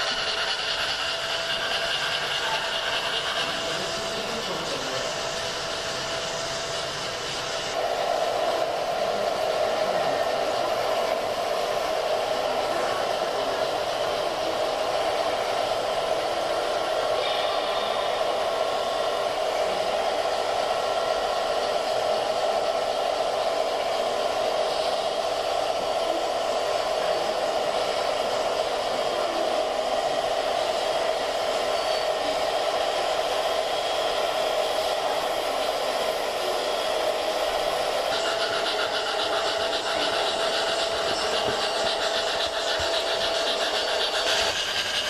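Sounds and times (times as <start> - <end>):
model trains rolling on track: 0.0 - 45.0.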